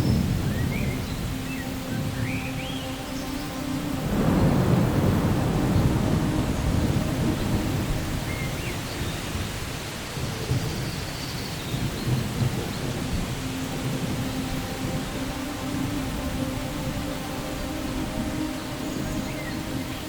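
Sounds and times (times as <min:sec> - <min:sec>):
steady rain: 0:00.0 - 0:20.0
thunder rumbling: 0:00.0 - 0:20.0.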